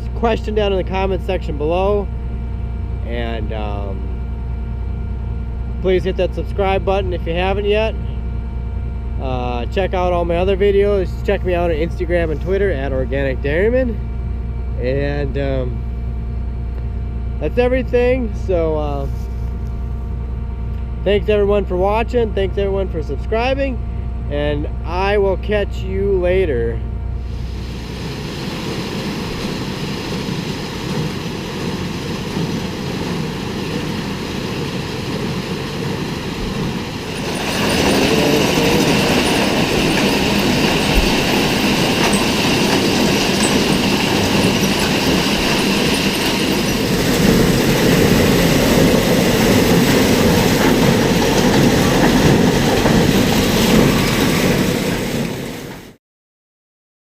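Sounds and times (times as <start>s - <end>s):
vehicle engine rattling rumble: 0.0s - 56.0s.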